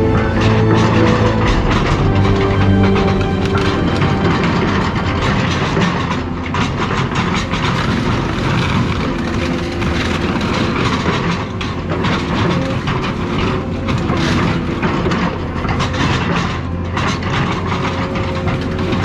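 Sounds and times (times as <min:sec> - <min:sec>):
metallic squeals: 0:00.0 - 0:16.7
diesel engine running under load: 0:00.0 - 0:19.0
metal clattering and grinding: 0:00.0 - 0:19.0.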